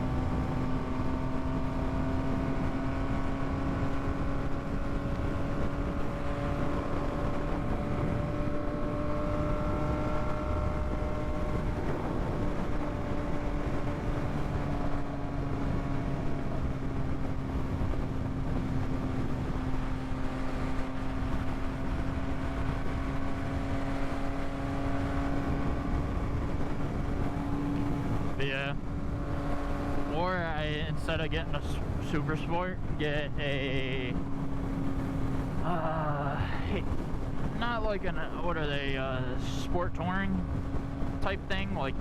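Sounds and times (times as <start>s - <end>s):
motorcycle engine running: 0.0s - 39.0s
wind and road noise: 0.0s - 42.0s.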